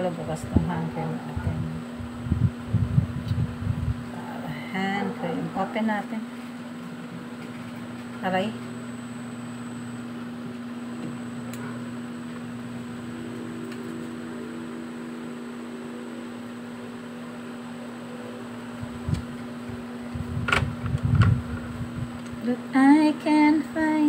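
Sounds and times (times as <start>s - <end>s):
fan motor humming: 0.0s - 24.0s.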